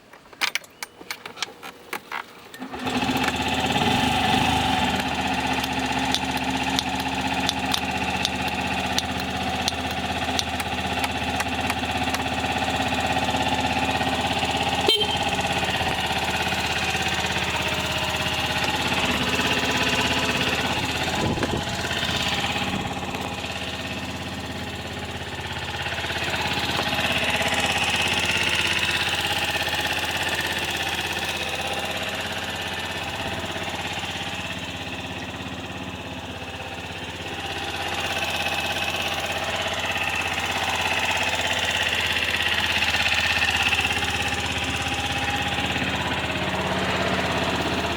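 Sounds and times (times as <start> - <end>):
scooter engine idling: 2.4 - 47.9.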